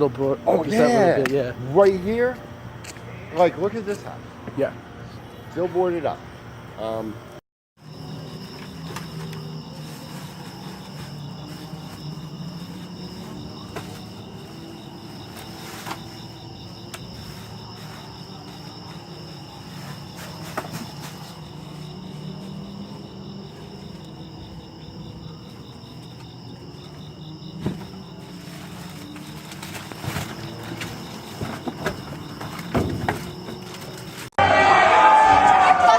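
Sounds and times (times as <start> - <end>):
insects trilling: 0.0 - 34.3.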